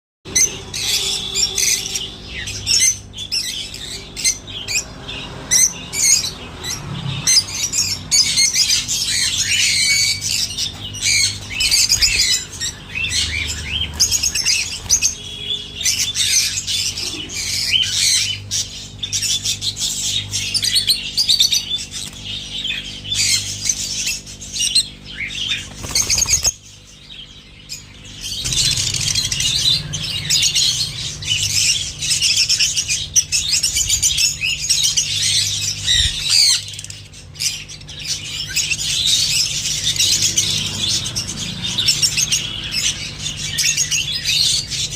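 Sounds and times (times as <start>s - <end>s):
lovebirds chattering: 0.3s - 44.9s.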